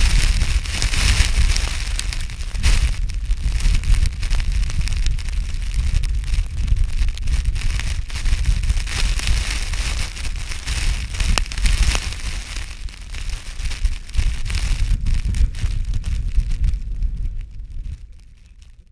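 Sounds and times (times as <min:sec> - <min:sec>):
hiss of wind-blown snow: 0:00.0 - 0:18.9
wind buffeting microphone: 0:00.0 - 0:18.9.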